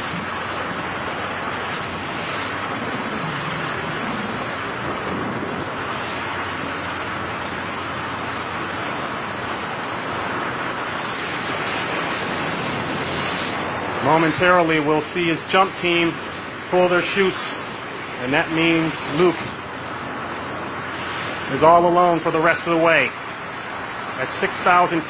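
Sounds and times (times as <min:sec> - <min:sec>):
rushing wind on microphone: 0:00.0 - 0:25.0.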